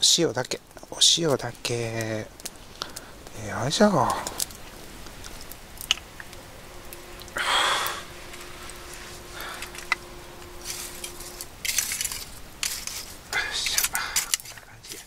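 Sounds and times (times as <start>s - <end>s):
charcoal crackling and scraping: 0.0s - 15.0s.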